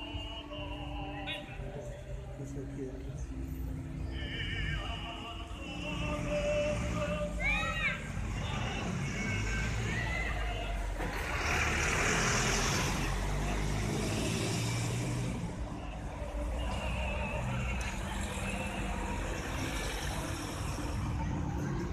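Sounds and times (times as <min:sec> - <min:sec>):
vehicle engines passing: 0:00.0 - 0:21.9.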